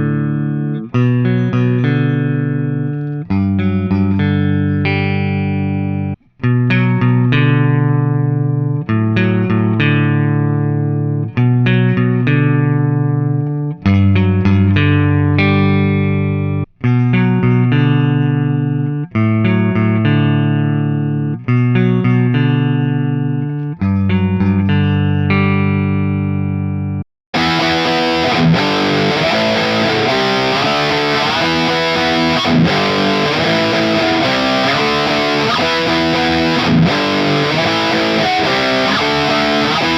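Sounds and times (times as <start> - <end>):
distorted guitar run of notes: 0.0 - 39.9
electric guitar chords ringing: 0.0 - 39.9.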